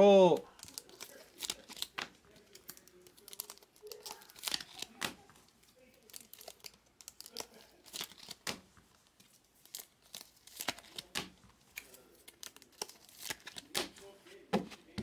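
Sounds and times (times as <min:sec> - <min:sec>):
plastic wrapping crinkling and tearing: 0:00.4 - 0:14.2.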